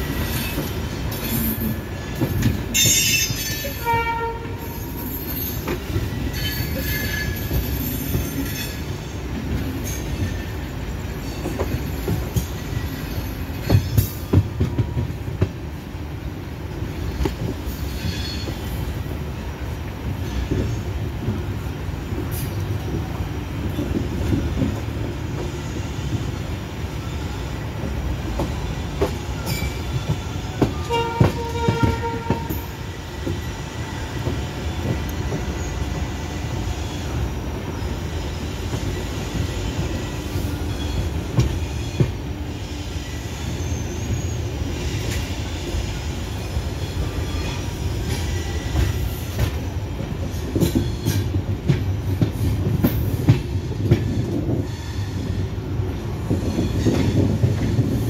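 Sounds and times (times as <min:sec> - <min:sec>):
train wheel squealing: 0:00.0 - 0:15.4, 0:16.8 - 0:58.0
train wheels rumbling on rails: 0:00.0 - 0:58.0.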